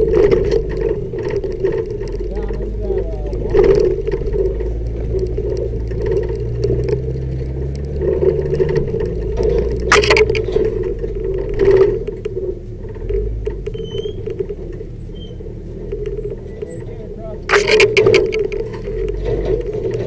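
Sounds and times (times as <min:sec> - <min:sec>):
light rattles: 0:00.0 - 0:20.0
vehicle rumbling over rocky track: 0:00.0 - 0:20.0.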